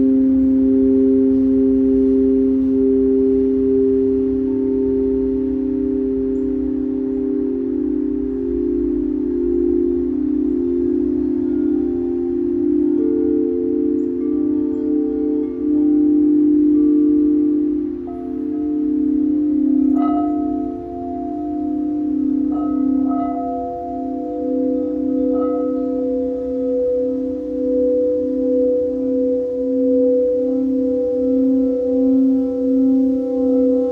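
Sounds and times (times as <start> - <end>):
crystal singing bowls sustained tones: 0.0 - 33.9
mallet strikes on bowls: 0.0 - 33.9.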